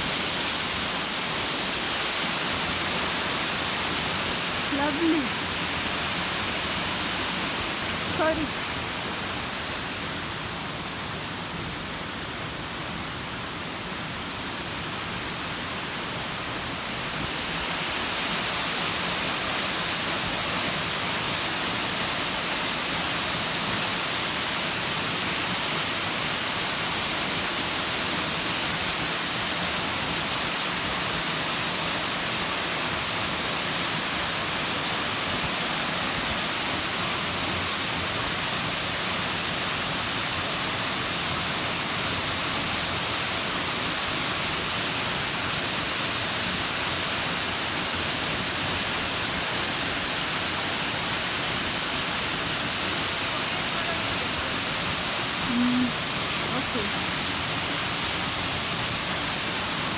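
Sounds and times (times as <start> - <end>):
waterfall rushing water: 0.0 - 59.9.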